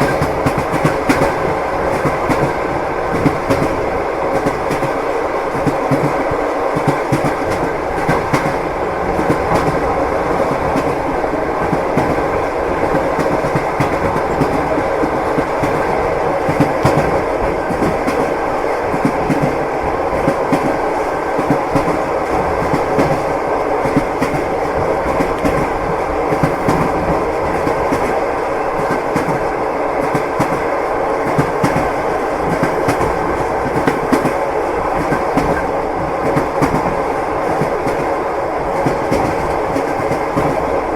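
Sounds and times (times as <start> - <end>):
railway carriage rumble: 0.0 - 40.9
train wheels clickety-clack: 0.0 - 40.9.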